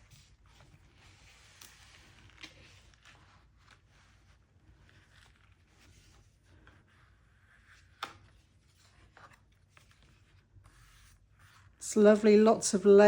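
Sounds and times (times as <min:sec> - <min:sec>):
paper pages rustling: 0:00.1 - 0:11.8.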